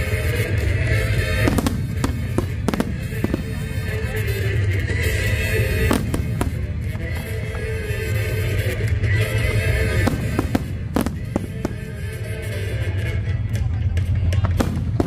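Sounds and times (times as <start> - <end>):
music: 0.0 - 15.0
steady low rumble: 0.0 - 15.0
fireworks bursting with bangs: 0.1 - 13.2, 14.0 - 15.0.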